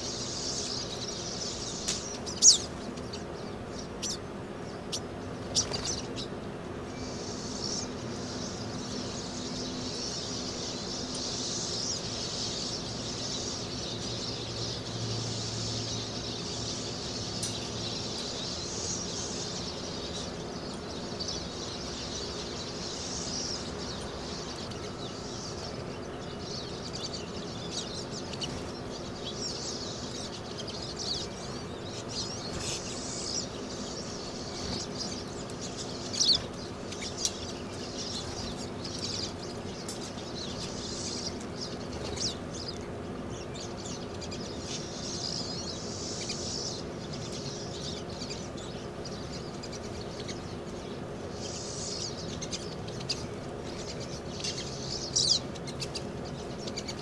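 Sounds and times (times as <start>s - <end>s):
flock of birds twittering: 0.0s - 57.0s.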